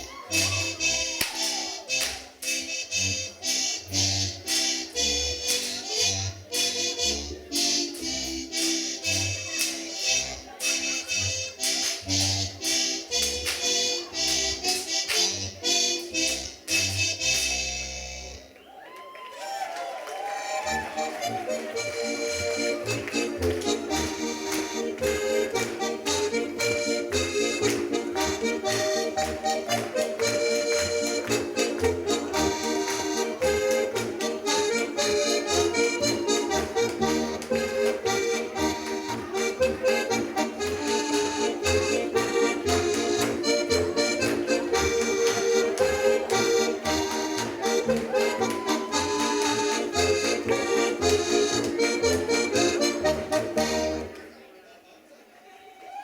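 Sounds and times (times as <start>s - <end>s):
accordion dance tune: 0.0s - 18.7s, 20.3s - 54.4s.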